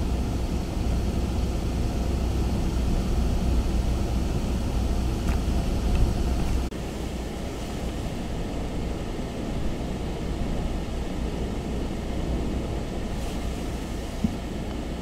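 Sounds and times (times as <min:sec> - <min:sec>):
hurricane wind buffeting microphone: 0:00.0 - 0:15.0.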